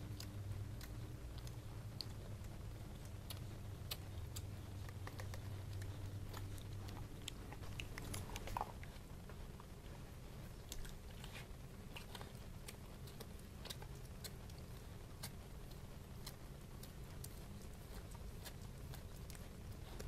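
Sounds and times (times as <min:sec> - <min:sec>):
dog gnawing bone: 0:00.0 - 0:09.7, 0:10.4 - 0:20.0
low steady hum: 0:00.0 - 0:20.0.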